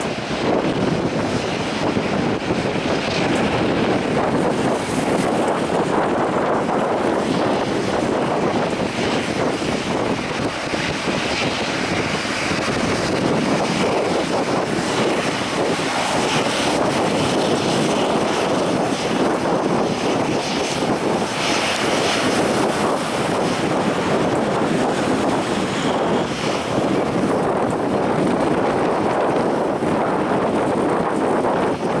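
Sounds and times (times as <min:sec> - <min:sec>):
jet engines at taxi power: 0:00.0 - 0:32.0.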